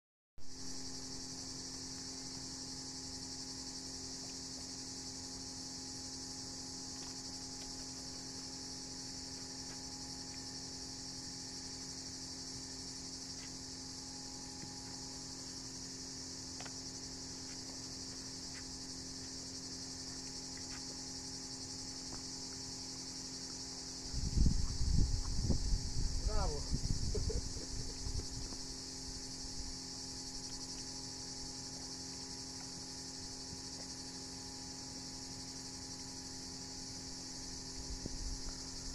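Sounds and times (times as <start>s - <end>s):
insects buzzing: 0.5s - 38.9s.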